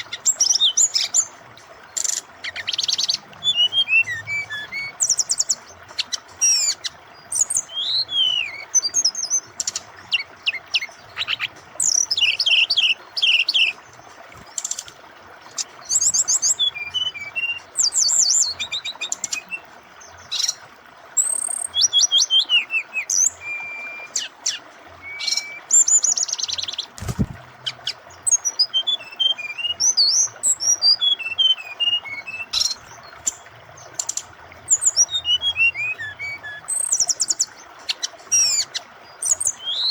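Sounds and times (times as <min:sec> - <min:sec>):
bird singing chirps and trills: 0:00.0 - 0:39.9
flowing water: 0:00.0 - 0:39.9.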